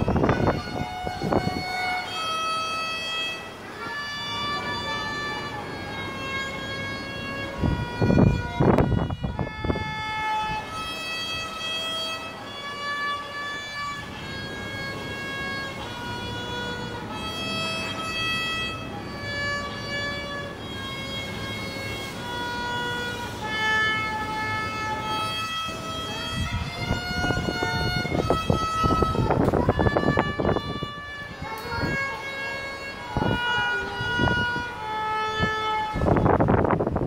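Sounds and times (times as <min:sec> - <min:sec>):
solo violin melody: 0:00.0 - 0:37.0.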